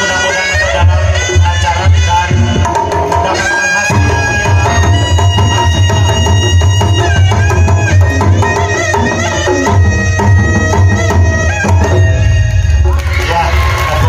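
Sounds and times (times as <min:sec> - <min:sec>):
shawm melody: 0:00.0 - 0:13.9
hand drums beating: 0:01.5 - 0:13.0.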